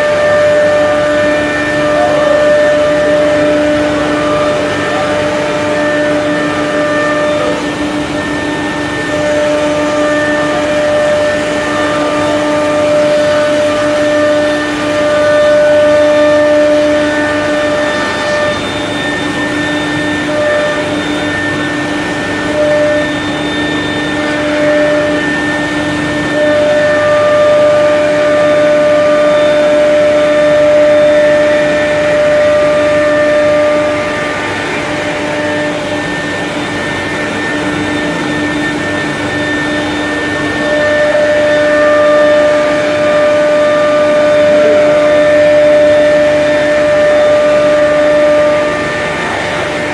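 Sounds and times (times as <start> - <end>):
machine whine with several tones: 0.0 - 49.9.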